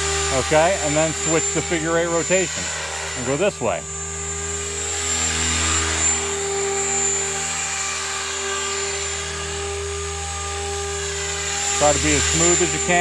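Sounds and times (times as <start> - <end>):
model helicopter rotor and motor: 0.0 - 13.0.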